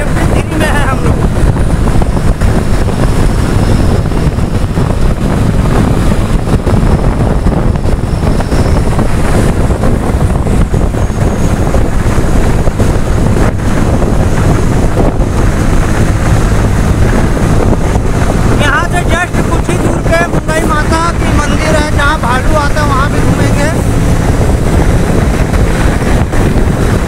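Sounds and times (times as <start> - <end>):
motorcycle engine and tyre noise: 0.0 - 27.0
wind rushing over microphone: 0.0 - 27.0.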